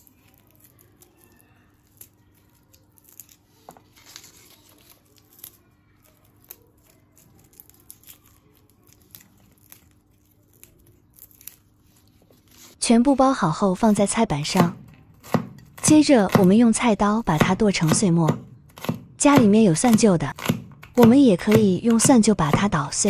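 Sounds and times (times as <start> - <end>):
garlic skins crackling and rustling: 0.0 - 23.0.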